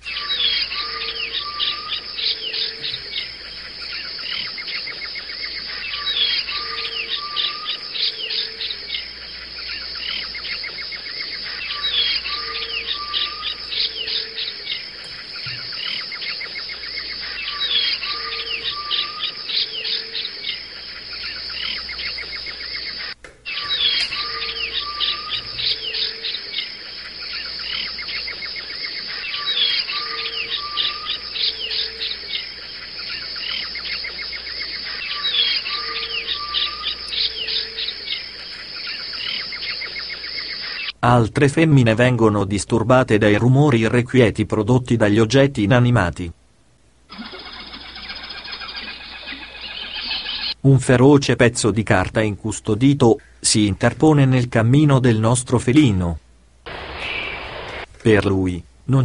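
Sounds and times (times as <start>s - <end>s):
birds chirping: 0.0s - 44.0s, 47.0s - 59.0s
insects trilling: 0.0s - 46.0s, 47.1s - 56.0s, 56.6s - 58.6s.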